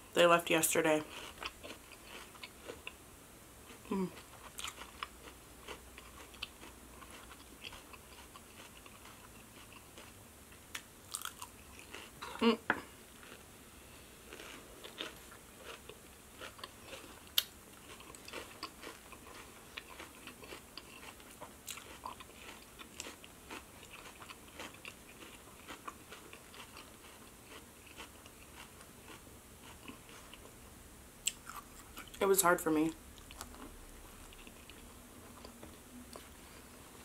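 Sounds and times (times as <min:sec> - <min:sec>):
person chewing food: 0:01.1 - 0:03.0, 0:03.6 - 0:30.6, 0:31.2 - 0:32.2, 0:33.1 - 0:37.0.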